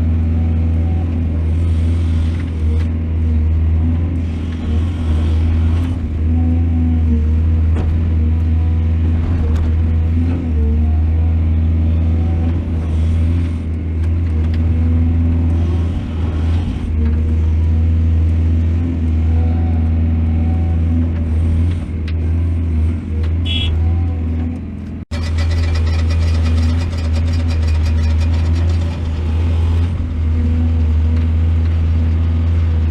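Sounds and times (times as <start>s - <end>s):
diesel engine humming: 0.0s - 32.9s.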